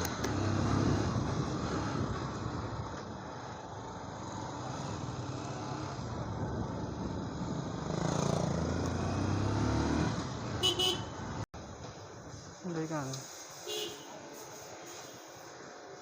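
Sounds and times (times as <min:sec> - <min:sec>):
street traffic engines: 0:00.0 - 0:16.0.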